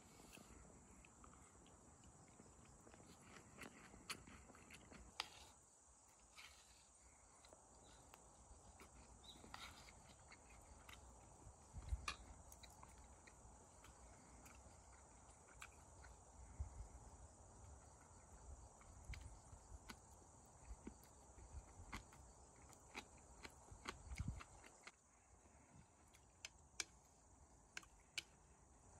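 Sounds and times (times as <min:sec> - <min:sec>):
insect chirring: 0:00.0 - 0:28.9.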